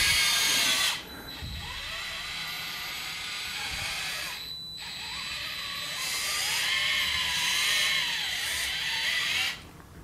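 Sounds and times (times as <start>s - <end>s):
electric toy motors whining: 0.0s - 9.6s.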